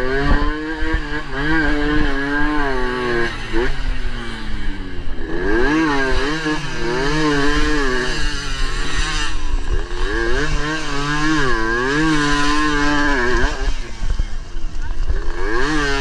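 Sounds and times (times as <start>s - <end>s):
motorcycle engine racing: 0.0s - 16.0s.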